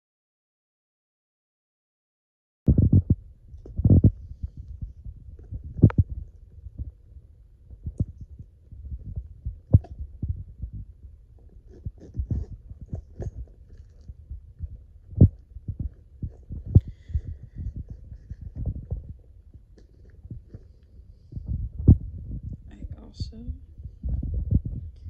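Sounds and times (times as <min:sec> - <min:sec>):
low rumble: 0:02.7 - 0:25.0.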